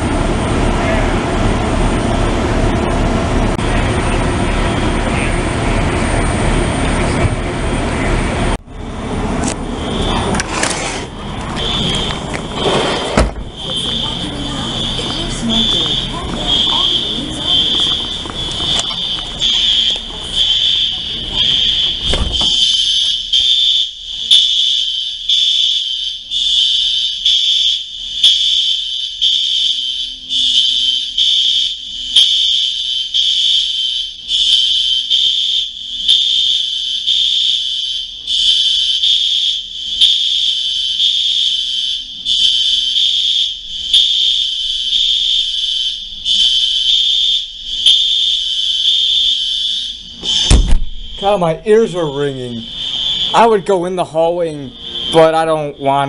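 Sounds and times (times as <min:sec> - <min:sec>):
fire alarm pulsing tone: 0:00.0 - 0:56.0.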